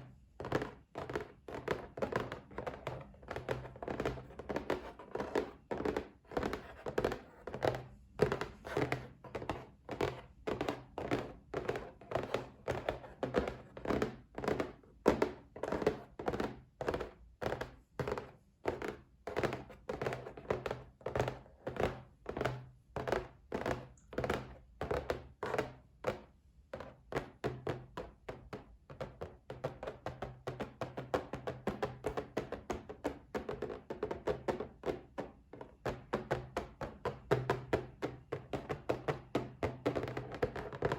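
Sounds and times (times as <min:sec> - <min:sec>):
fingers tapping on a box: 0:00.4 - 0:26.2, 0:26.8 - 0:40.9.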